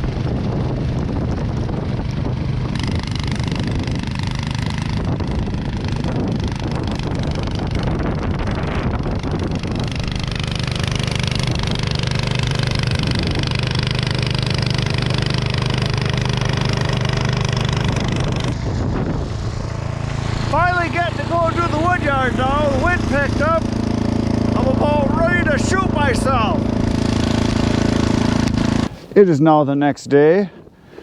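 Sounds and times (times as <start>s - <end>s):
snowblower engine running: 0.0s - 29.3s.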